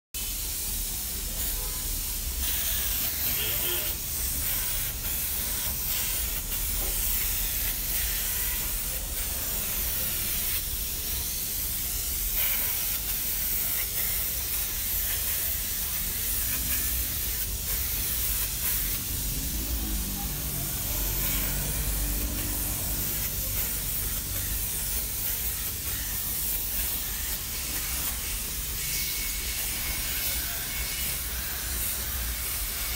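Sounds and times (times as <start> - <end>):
paint spray gun hissing: 0.2 - 32.9.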